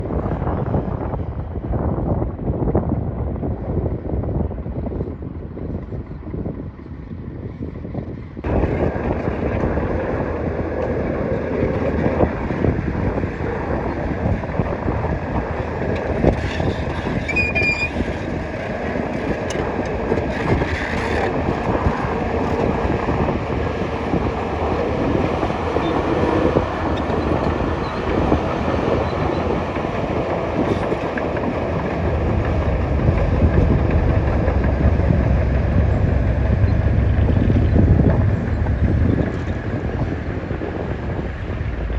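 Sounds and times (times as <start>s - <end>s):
heavy low rumble: 0.0s - 41.9s
bulldozer engine and tracks clattering: 3.4s - 41.9s.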